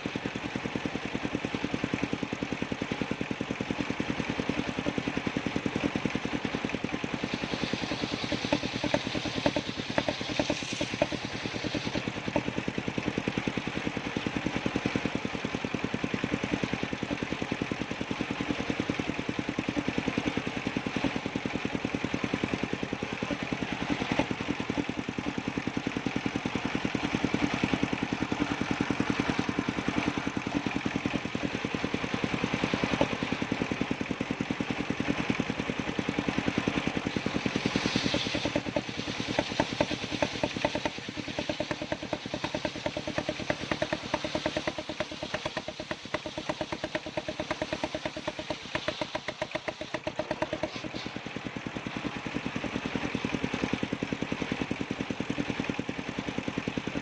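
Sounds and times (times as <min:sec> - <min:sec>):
sawmill engine chugging: 0:00.0 - 0:57.0.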